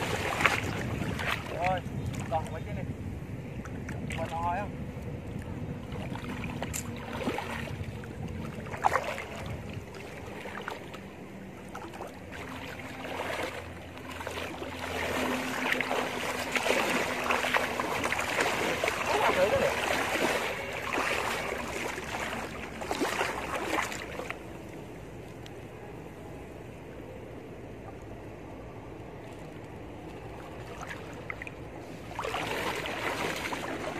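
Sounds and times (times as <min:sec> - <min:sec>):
water sloshing from wading: 0:00.0 - 0:33.9.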